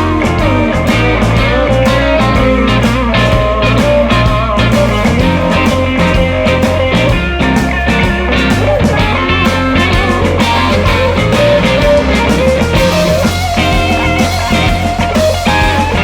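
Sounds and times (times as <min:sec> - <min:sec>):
bass guitar: 0:00.0 - 0:16.0
drum kit beat: 0:00.0 - 0:16.0
electric guitar lines: 0:00.0 - 0:16.0.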